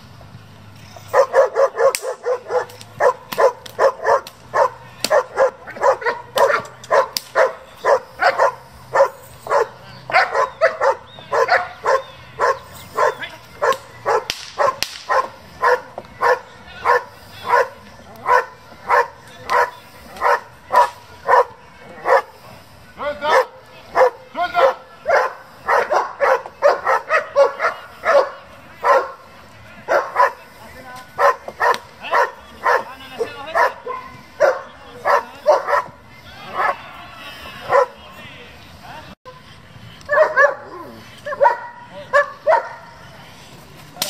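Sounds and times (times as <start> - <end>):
dog barking: 1.1 - 22.3, 23.3 - 29.2, 29.9 - 30.4, 31.2 - 35.9, 37.7 - 38.0, 40.1 - 42.9.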